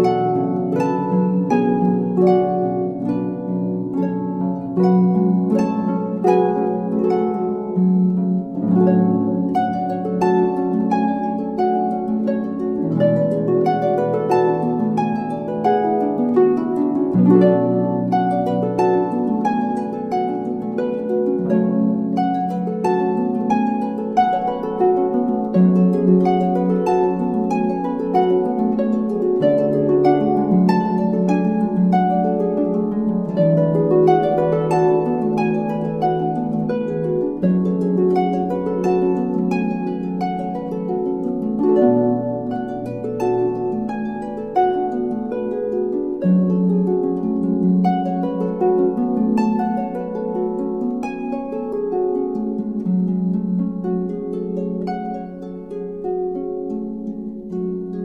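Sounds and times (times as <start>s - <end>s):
harp playing: 0.0s - 58.0s.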